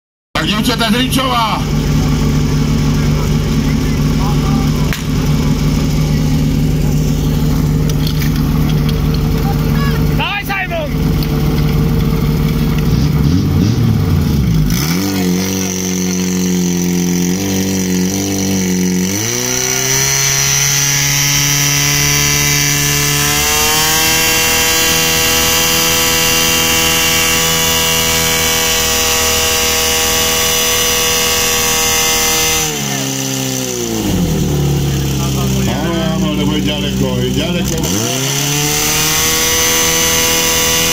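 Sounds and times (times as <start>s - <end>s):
pump engine droning: 0.4s - 40.9s.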